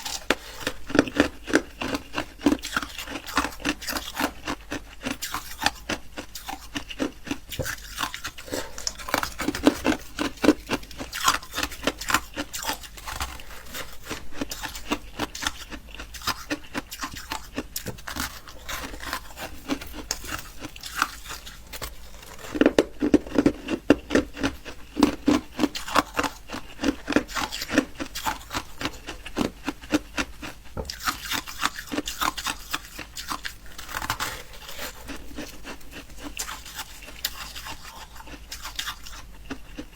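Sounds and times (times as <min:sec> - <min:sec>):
chewing ice: 0:00.0 - 0:39.9.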